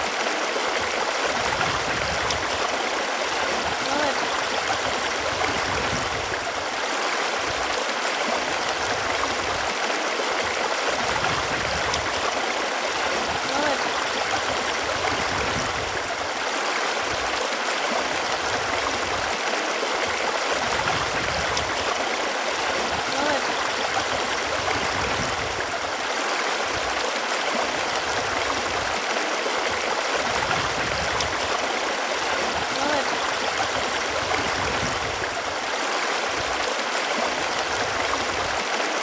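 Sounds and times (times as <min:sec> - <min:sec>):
running water flowing: 0:00.0 - 0:39.0.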